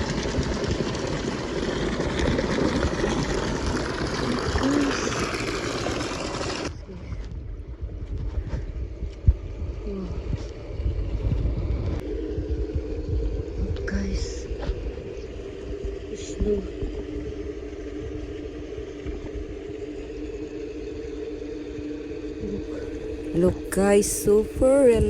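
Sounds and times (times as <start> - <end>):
running water: 0.0 - 6.8, 10.3 - 25.0
wind rumbling on microphone: 0.0 - 25.0.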